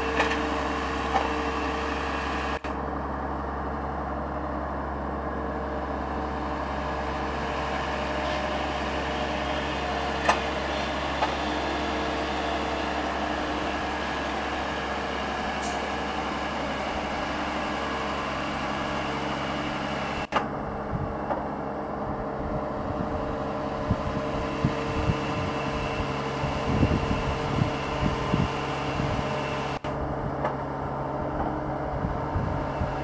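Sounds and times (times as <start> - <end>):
machine engine humming: 0.0 - 33.0.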